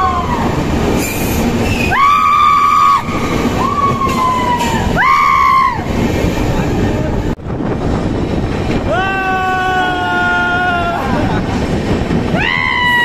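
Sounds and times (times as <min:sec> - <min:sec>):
train rumbling through tunnel: 0:00.0 - 0:13.0.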